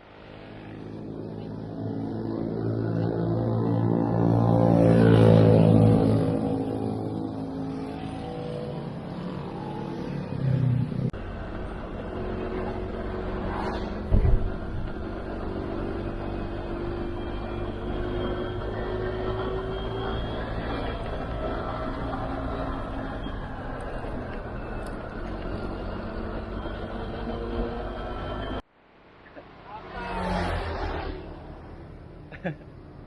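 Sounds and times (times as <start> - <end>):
vehicle engine passing: 0.3 - 28.6, 29.2 - 33.0.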